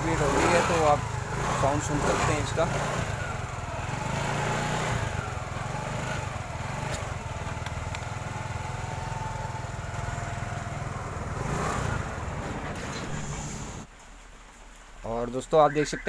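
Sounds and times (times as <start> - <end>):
scooter engine running: 0.0 - 13.2.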